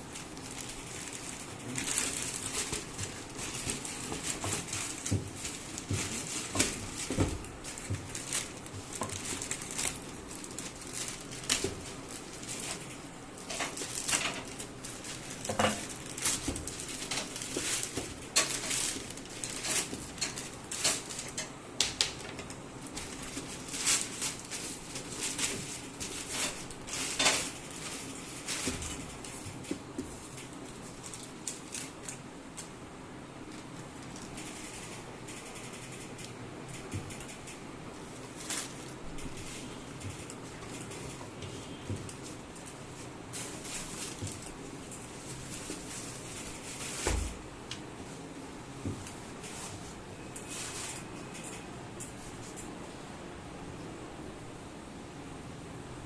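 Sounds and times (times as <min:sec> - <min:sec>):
box packing rustling and crinkling: 0:00.0 - 0:32.7, 0:33.4 - 0:51.6.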